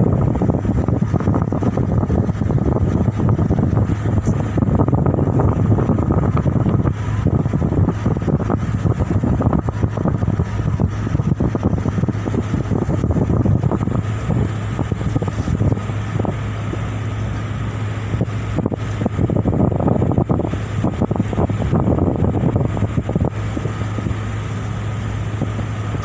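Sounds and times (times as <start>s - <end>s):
boat engine droning: 0.0s - 26.0s
wind buffeting microphone: 0.0s - 26.0s.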